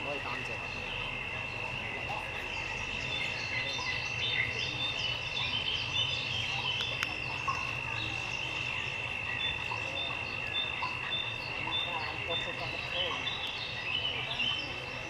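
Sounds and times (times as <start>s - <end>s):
insect chirps: 0.0s - 15.0s
insects trilling drone: 0.0s - 15.0s.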